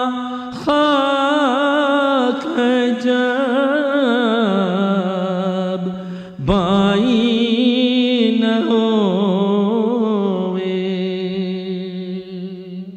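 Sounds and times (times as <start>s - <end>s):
man chanting: 0.0s - 12.9s.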